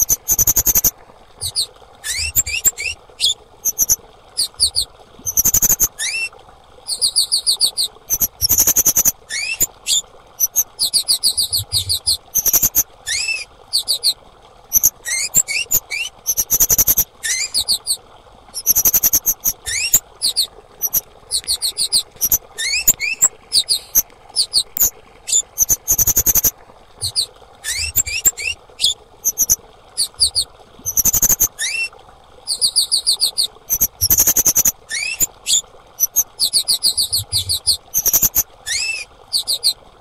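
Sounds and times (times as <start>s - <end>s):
bird chirping and trilling: 0.0s - 6.3s, 6.9s - 18.0s, 18.6s - 31.9s, 32.5s - 39.8s
bird rising whistles: 0.3s - 6.2s, 6.9s - 18.0s, 18.6s - 31.9s, 36.8s - 39.8s.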